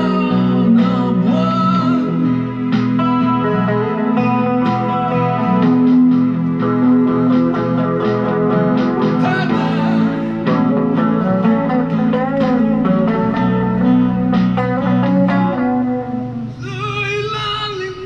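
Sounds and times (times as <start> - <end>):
electric guitar melody: 0.0 - 18.0.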